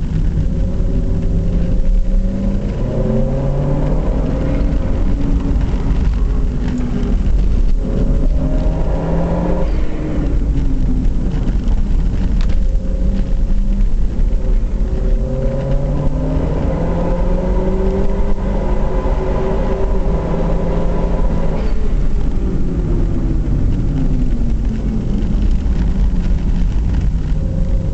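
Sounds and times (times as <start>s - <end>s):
car engine accelerating and decelerating: 0.0s - 27.9s
wind and road noise rumble: 0.0s - 27.9s.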